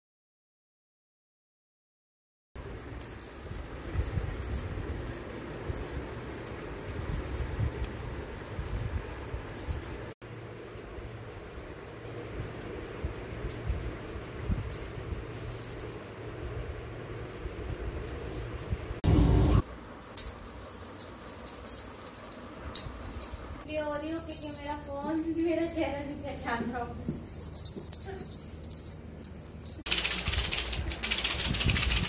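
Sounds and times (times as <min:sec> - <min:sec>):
small bell jingling: 0:02.6 - 0:12.5, 0:13.3 - 0:16.2, 0:17.7 - 0:19.0, 0:19.6 - 0:32.0
handling rumble: 0:02.6 - 0:32.0.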